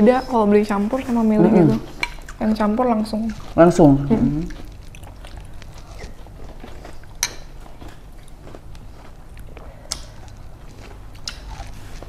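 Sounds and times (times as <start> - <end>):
low steady hum: 0.0 - 12.0
people chewing food: 0.0 - 12.0.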